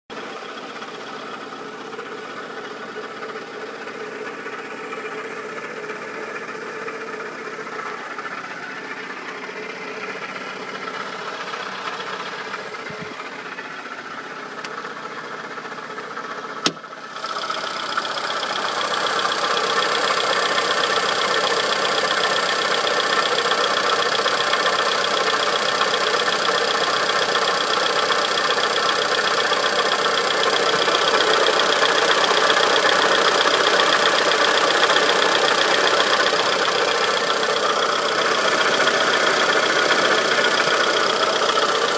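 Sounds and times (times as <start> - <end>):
car engine running: 0.1 - 41.9
strange engine noise: 0.1 - 41.9.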